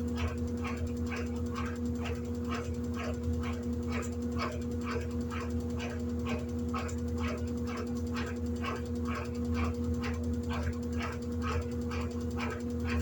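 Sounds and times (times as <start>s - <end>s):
washing machine motor hum: 0.0s - 13.0s
washing machine swishing: 0.0s - 13.0s.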